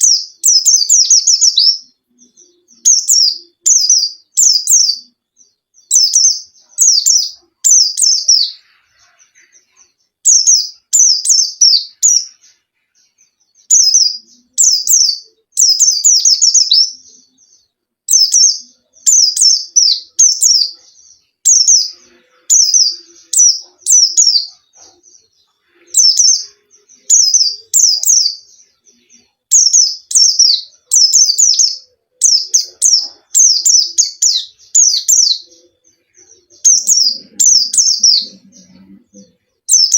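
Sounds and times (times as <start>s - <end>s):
bird high chirping song: 0.0s - 39.9s.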